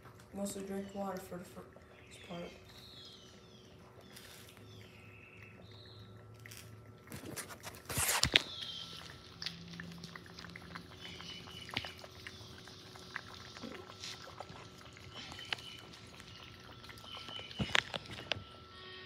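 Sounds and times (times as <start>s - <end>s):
cat lapping and eating: 0.0s - 18.8s.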